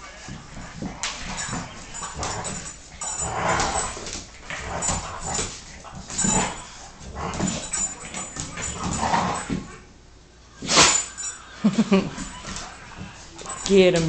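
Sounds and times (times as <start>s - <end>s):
dogs playing roughly: 0.0s - 10.0s, 10.6s - 14.0s.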